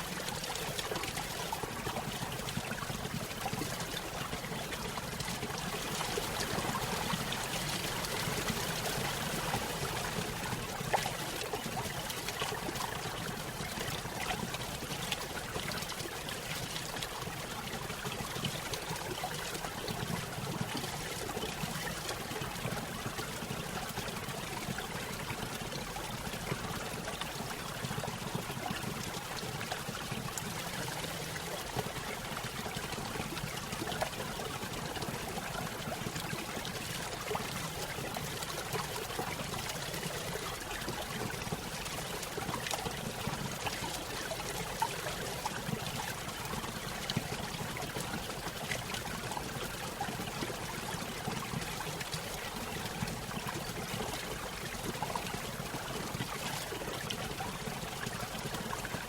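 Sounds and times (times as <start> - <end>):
stream over small waterfall: 0.0 - 59.0.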